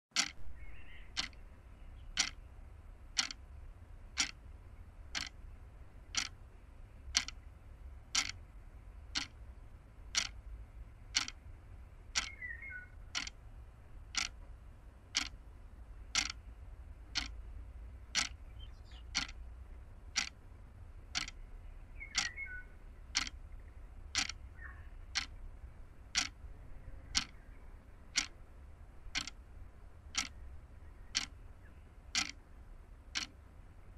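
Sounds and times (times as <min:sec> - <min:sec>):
clock-like ticking: 0:00.1 - 0:01.5, 0:02.1 - 0:33.6
steady low rumble: 0:00.2 - 0:33.9.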